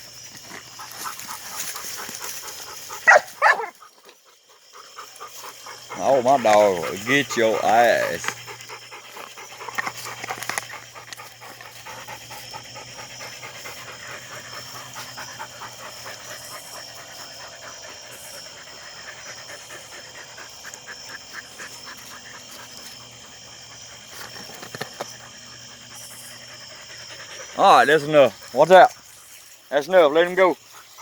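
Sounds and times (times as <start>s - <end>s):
dogs panting: 0.0s - 31.0s.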